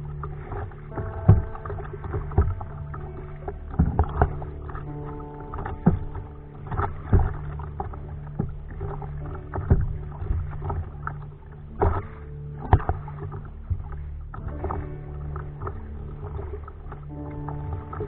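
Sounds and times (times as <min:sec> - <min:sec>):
kayak paddle splashing in water: 0:00.0 - 0:18.0.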